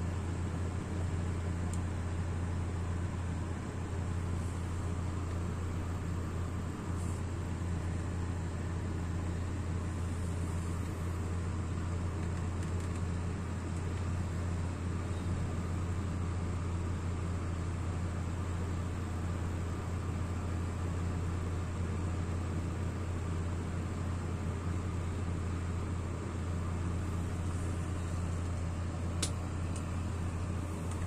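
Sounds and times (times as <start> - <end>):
kerosene stove burning: 0.0 - 31.0.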